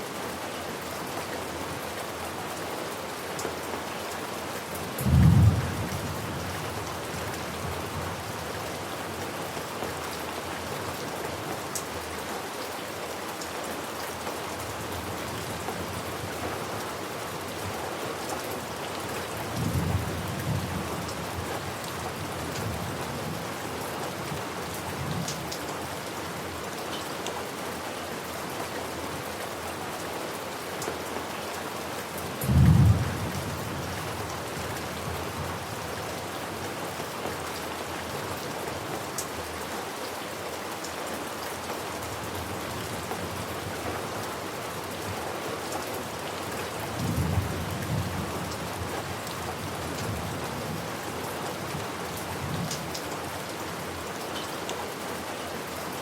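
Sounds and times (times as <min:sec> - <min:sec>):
rain hissing on surfaces: 0:00.0 - 0:56.0.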